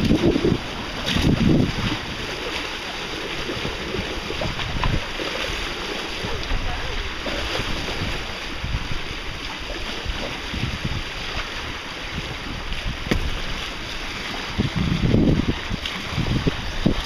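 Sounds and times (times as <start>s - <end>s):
water splashing along hull: 0.0s - 17.0s
wind buffeting microphone: 0.0s - 17.0s.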